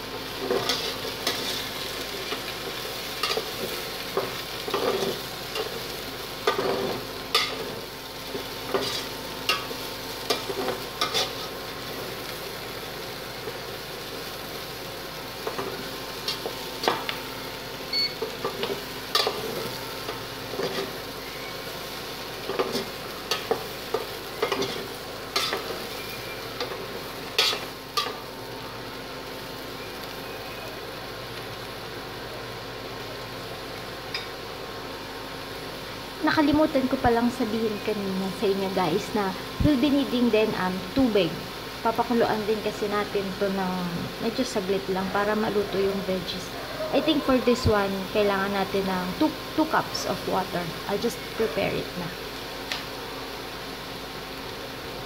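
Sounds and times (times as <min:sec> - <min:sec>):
food sizzling: 0:00.0 - 0:55.0.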